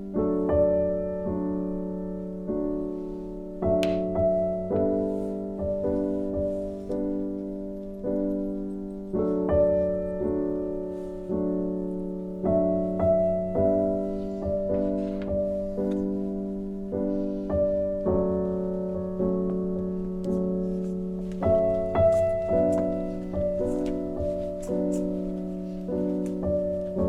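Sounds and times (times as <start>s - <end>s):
slow piano chords: 0.0s - 27.0s.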